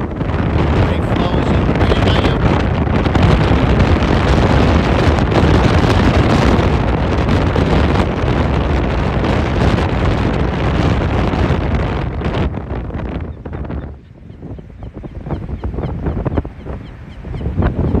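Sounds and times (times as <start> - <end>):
storm wind on microphone: 0.0 - 18.0.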